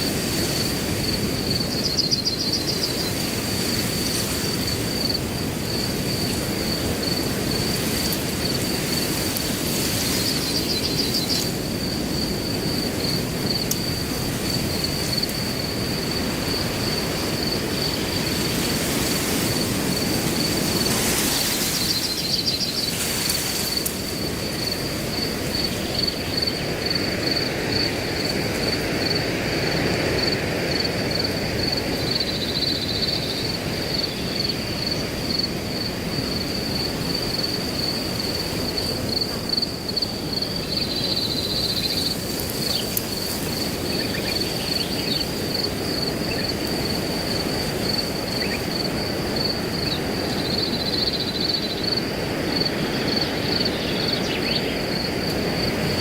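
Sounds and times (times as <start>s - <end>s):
crickets chirping: 0.0s - 56.0s
wind blowing through grass: 0.0s - 56.0s.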